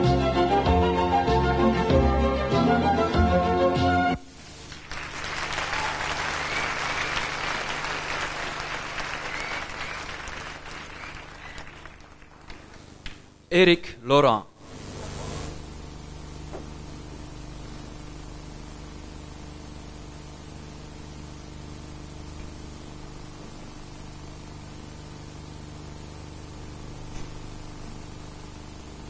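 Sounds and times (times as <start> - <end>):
recording hiss and hum: 0.0 - 29.0.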